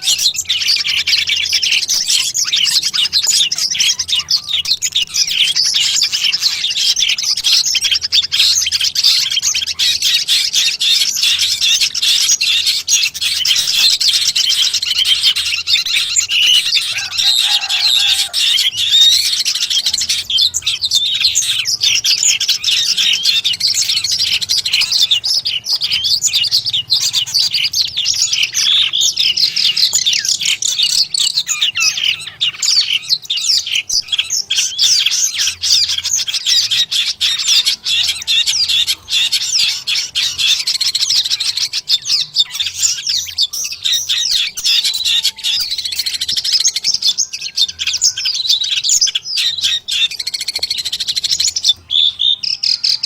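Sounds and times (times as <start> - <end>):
bird chattering song: 0.0 - 53.0.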